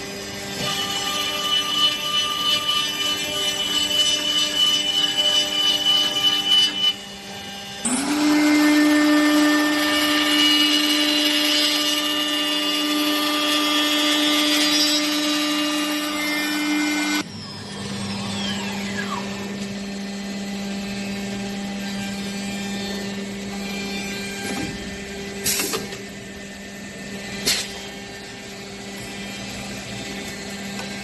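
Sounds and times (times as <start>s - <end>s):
machine spindle whine: 0.0s - 31.0s
wood cutting noise: 0.0s - 31.0s.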